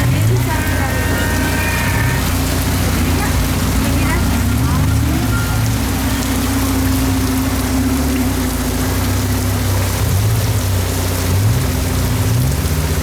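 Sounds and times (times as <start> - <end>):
constant hiss: 0.0 - 13.0
engine running: 0.0 - 13.0.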